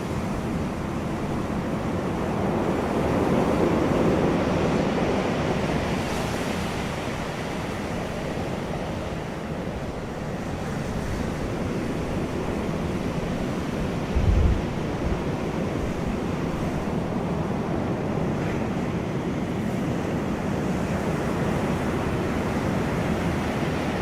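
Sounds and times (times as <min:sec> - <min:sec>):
ocean surf washing in: 0:00.0 - 0:24.0.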